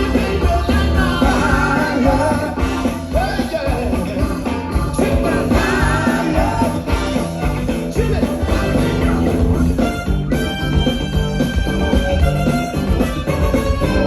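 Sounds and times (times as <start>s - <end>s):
funk band playing: 0.0s - 14.0s.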